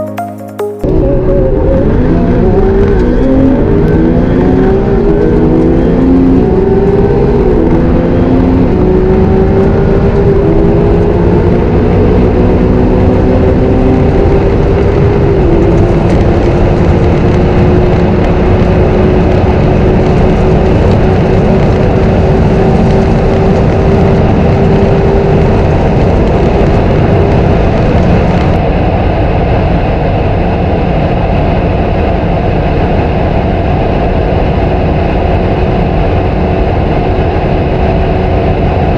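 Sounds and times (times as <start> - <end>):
car engine accelerating: 0.8 - 38.9
road and wind roar: 0.8 - 38.9.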